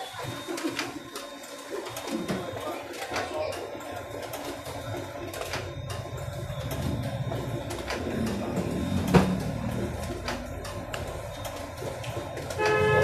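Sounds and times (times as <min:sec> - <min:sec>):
photocopier humming: 0:00.0 - 0:13.0.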